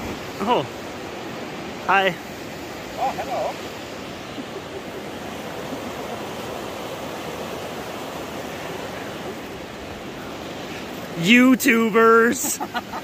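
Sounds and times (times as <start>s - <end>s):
mountain river rushing: 0.0s - 13.0s.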